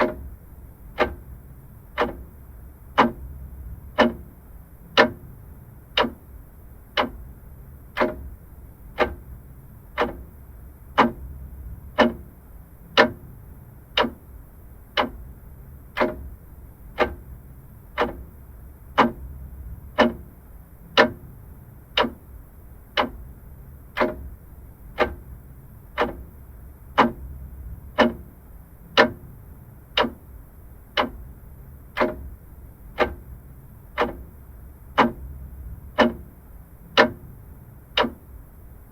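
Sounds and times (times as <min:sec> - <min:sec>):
faint low hum: 0:00.0 - 0:38.9
mechanical clock ticking: 0:00.0 - 0:38.9.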